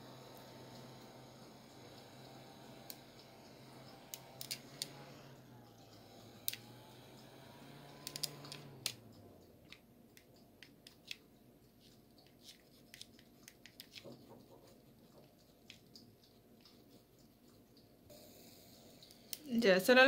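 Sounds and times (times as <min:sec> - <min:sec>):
small electric fan humming: 0:00.0 - 0:20.0.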